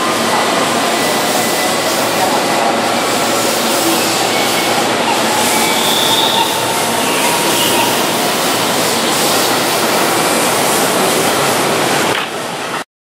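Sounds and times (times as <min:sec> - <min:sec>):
train running past: 0:00.0 - 0:12.8.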